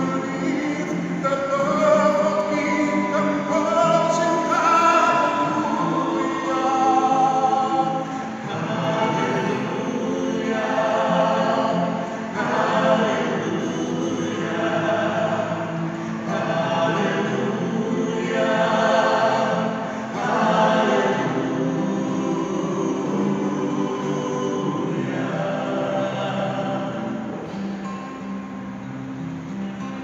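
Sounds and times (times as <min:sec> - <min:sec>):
choir singing held notes: 0:00.0 - 0:28.3.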